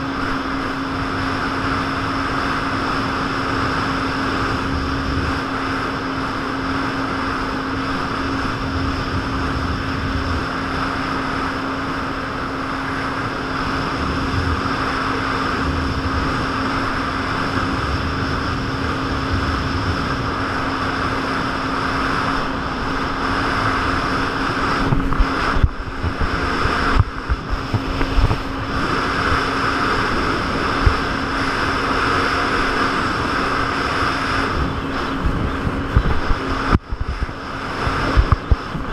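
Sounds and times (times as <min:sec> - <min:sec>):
jet ski engine droning: 0:00.0 - 0:38.9
wind and water rushing: 0:00.0 - 0:38.9.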